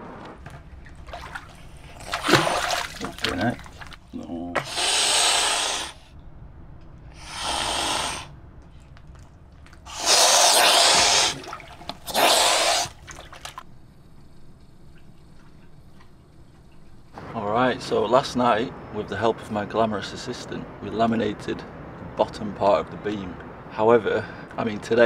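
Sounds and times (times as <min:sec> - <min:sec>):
water splashing: 0:00.4 - 0:06.3, 0:07.0 - 0:25.0.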